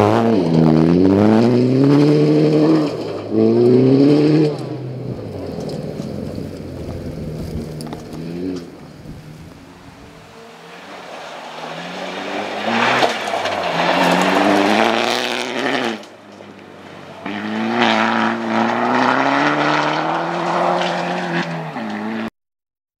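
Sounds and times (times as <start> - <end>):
rally car engine revving high: 0.0 - 22.3.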